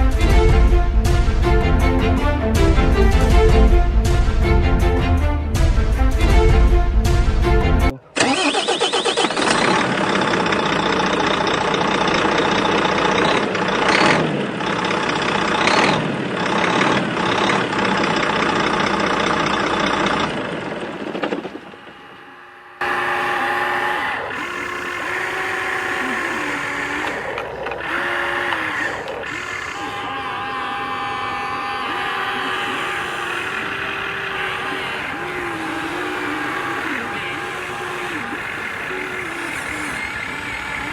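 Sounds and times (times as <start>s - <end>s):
toy excavator engine sound: 7.9s - 40.9s
electric motors whirring: 8.0s - 40.9s.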